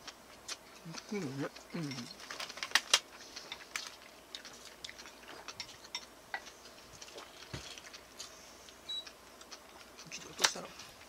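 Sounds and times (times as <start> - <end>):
chewing: 0.3 - 10.3.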